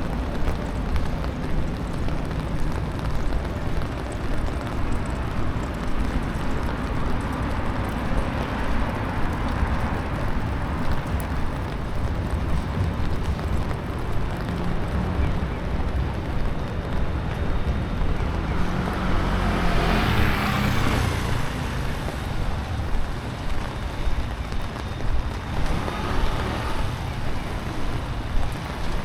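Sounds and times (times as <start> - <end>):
rain hiss: 0.0 - 29.0
traffic rumble: 0.0 - 29.0.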